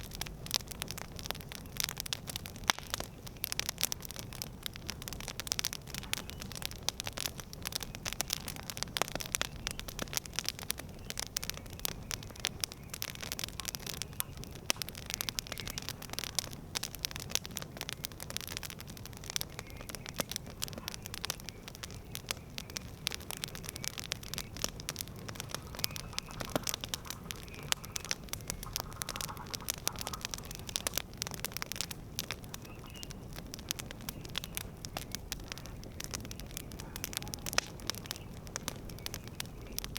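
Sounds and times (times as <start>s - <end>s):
burning wood popping and snapping: 0.0s - 39.9s
low rumble of flame: 0.0s - 39.9s.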